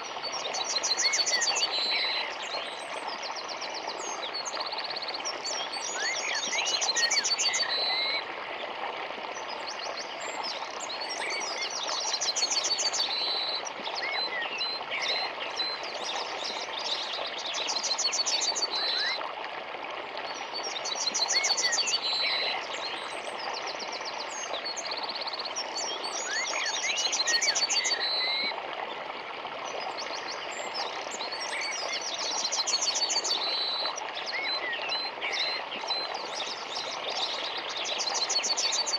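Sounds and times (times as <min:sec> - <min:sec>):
songbirds singing: 0:00.0 - 0:08.2, 0:09.3 - 0:19.2, 0:20.3 - 0:28.5, 0:29.8 - 0:38.9
small river rushing: 0:00.0 - 0:38.9.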